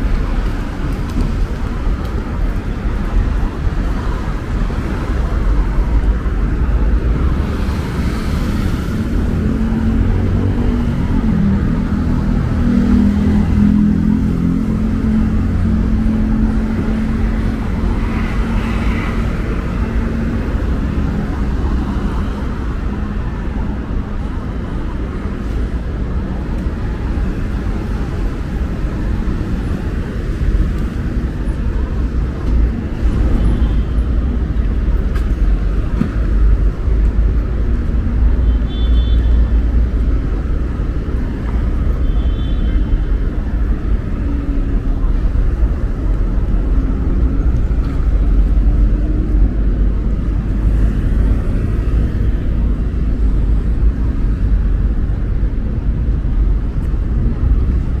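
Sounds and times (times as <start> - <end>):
faint voices of passers-by: 0.0 - 38.4, 39.4 - 58.0
cars passing: 0.0 - 58.0.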